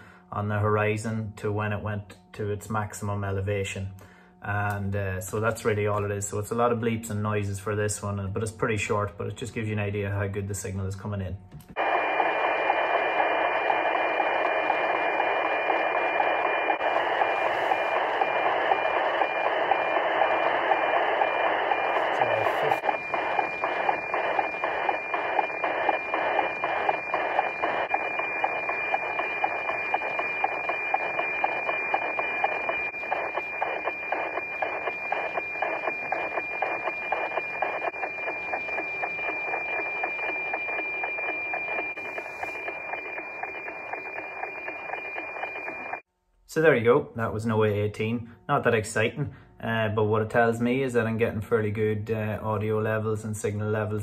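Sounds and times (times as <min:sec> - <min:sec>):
satellite signal tone over hiss: 0:00.0 - 0:11.0, 0:11.7 - 0:46.1.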